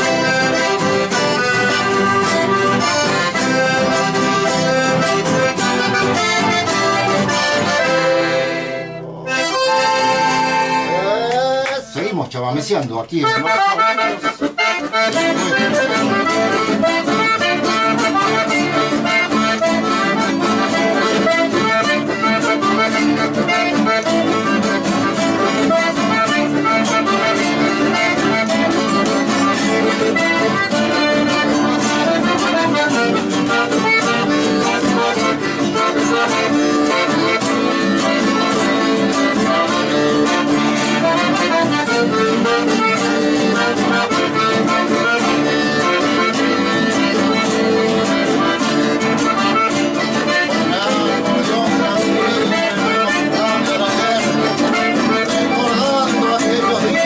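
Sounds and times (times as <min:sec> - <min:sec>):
accordion folk music: 0:00.0 - 0:57.0.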